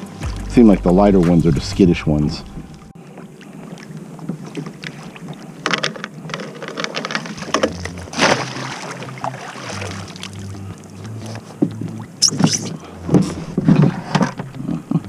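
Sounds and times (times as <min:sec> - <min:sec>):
water splashing and dripping: 0:00.0 - 0:13.7.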